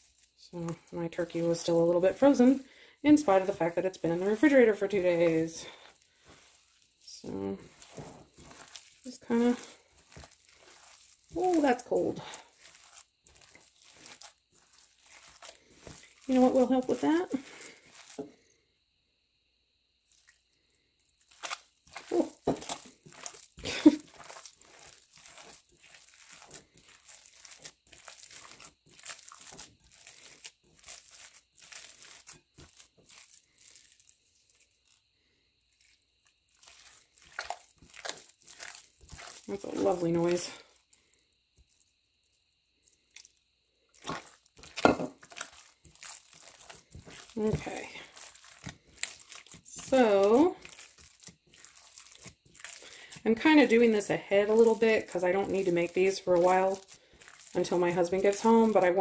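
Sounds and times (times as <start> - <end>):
hand squishing wet ground meat: 0.0 - 59.0.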